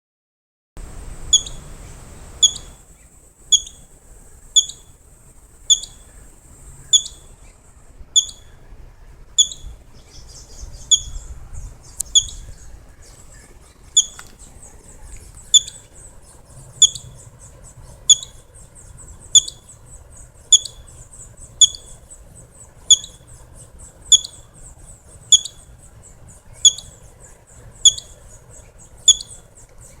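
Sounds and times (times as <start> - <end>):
squirrel calling: 1.2 - 7.5, 8.2 - 8.6, 9.4 - 30.0.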